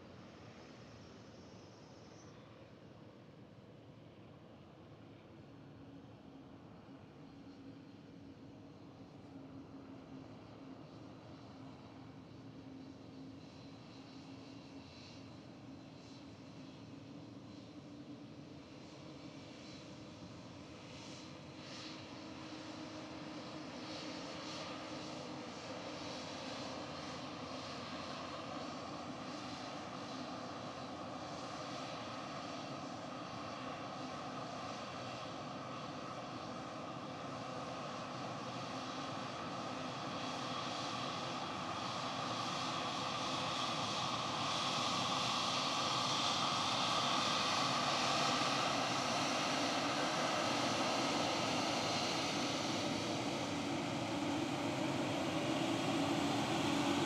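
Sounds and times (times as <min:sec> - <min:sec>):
jet engines running: 0:06.9 - 0:57.0.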